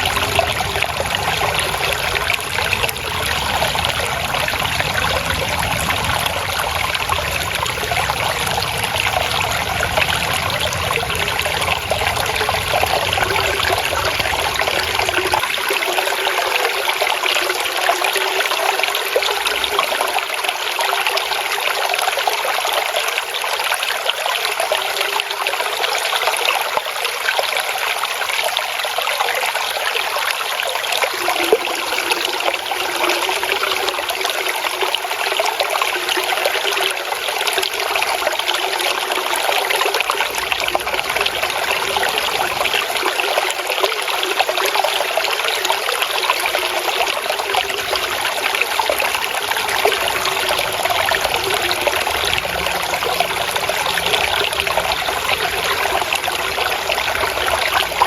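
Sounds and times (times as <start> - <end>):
water trickling and babbling: 0.0 - 58.0.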